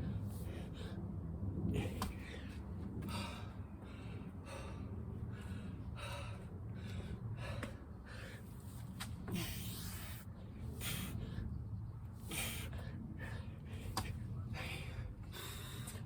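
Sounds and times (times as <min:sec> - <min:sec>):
man breathing hard and gasping: 0:00.0 - 0:11.5, 0:12.2 - 0:16.0
low steady hum: 0:00.0 - 0:16.0.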